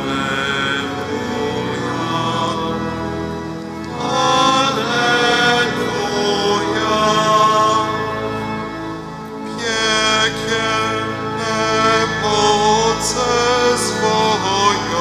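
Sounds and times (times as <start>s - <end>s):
choir singing a hymn: 0.0s - 15.0s
organ tones: 0.0s - 15.0s.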